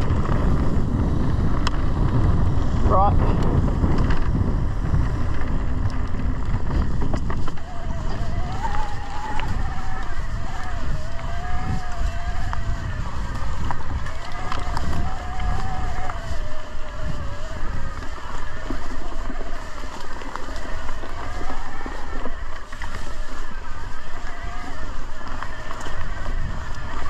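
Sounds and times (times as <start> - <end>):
bike knocking and rattling: 0.0 - 27.0
bike wheels whirring: 0.0 - 27.0
wind buffeting microphone: 0.0 - 27.0.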